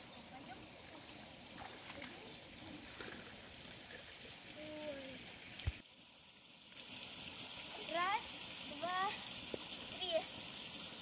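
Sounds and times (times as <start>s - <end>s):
flowing spring water hiss: 0.0s - 11.0s.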